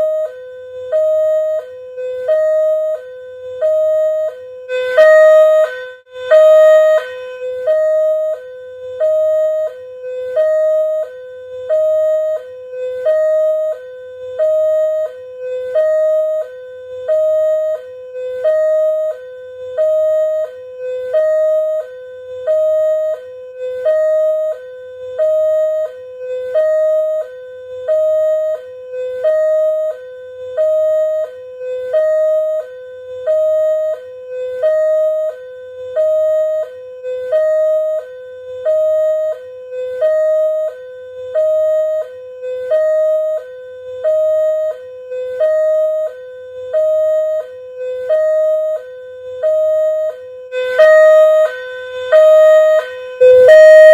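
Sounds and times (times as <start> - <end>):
two-tone electronic warning siren: 0.0 - 53.9.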